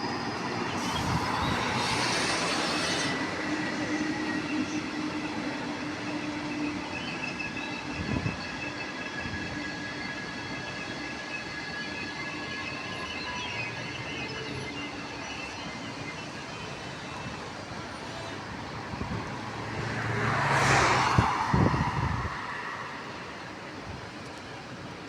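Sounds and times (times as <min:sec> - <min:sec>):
train rumbling on track: 0:00.0 - 0:25.0.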